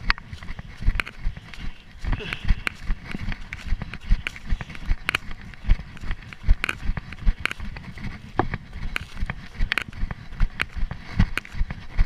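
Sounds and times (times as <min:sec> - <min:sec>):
running footsteps on dry leaves: 0:00.0 - 0:12.0.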